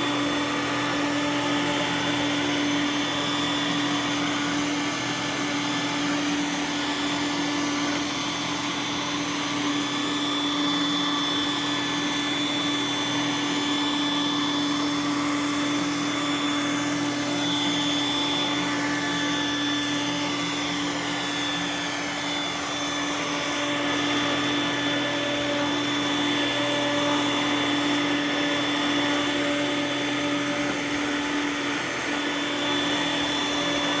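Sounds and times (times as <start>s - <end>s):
robot vacuum running: 0.0s - 34.0s.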